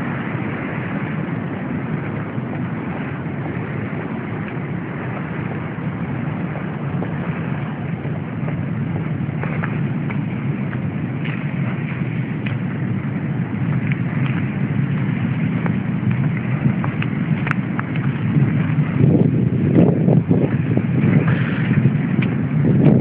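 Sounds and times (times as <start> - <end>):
heavy surf: 0.0 - 23.0
wind: 0.0 - 23.0.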